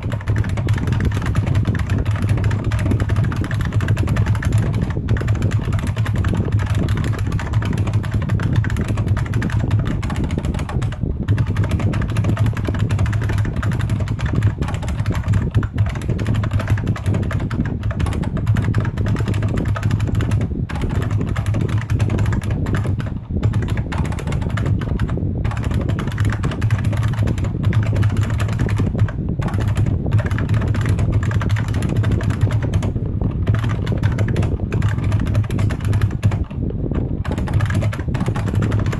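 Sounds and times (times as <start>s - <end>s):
keyboard keys clicking: 0.0s - 38.9s.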